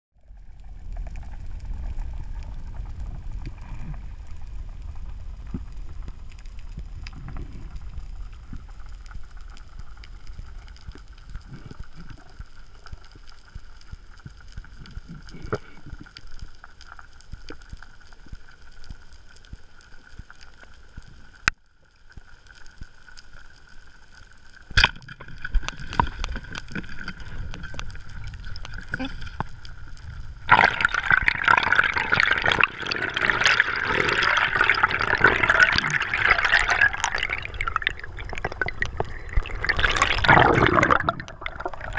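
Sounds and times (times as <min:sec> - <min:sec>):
underwater rumble of water: 0:00.2 - 0:41.9
faint clicks: 0:00.9 - 0:41.9.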